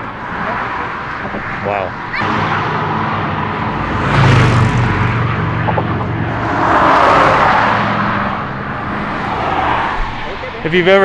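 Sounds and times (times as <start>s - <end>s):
tyre and engine noise: 0.0s - 11.0s
vehicles passing close by: 0.0s - 11.0s.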